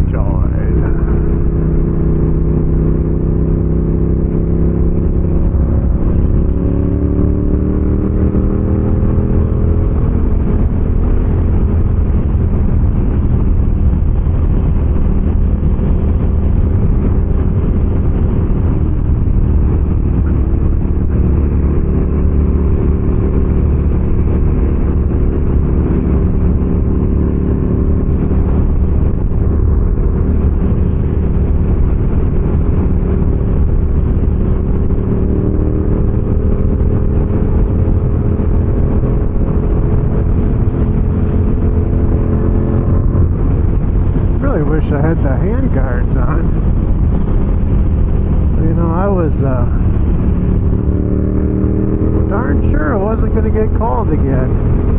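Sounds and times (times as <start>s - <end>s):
heavy wind noise: 0.0s - 54.9s
motorcycle engine accelerating: 0.0s - 54.9s.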